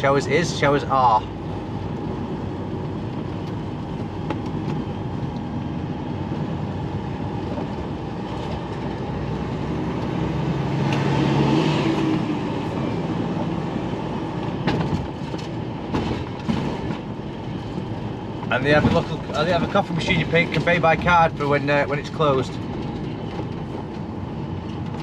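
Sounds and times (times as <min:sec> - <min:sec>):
lorry diesel engine: 0:00.0 - 0:25.0.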